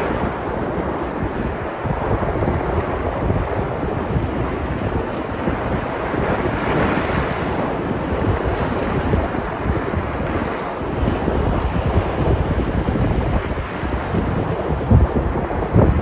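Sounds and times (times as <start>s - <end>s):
sea surf breaking on shore: 0.0s - 16.0s.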